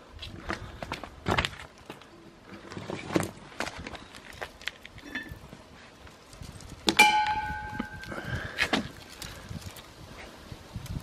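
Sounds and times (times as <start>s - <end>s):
footsteps on concrete: 0.0s - 10.4s.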